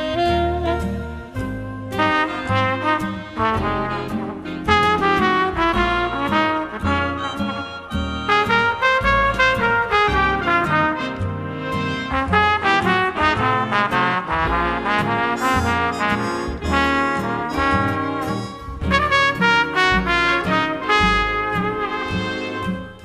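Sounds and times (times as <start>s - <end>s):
big band jazz music: 0.0s - 23.0s.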